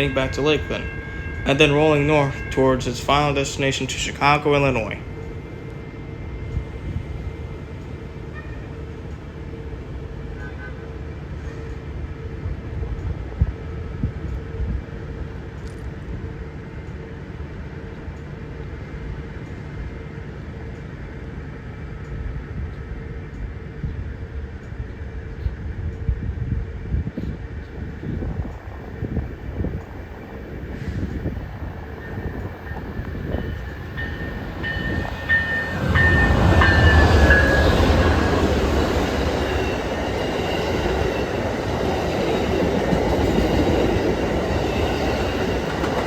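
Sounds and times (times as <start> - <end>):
diesel locomotive rumbling: 0.0 - 18.8, 19.4 - 46.0.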